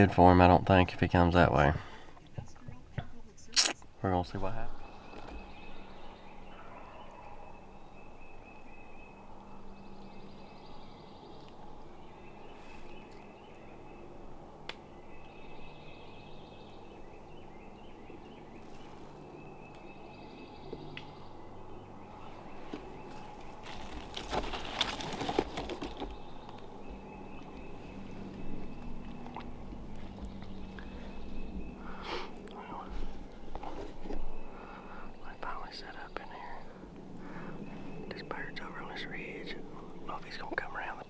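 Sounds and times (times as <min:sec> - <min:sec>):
faint low hum: 0:00.0 - 0:41.0.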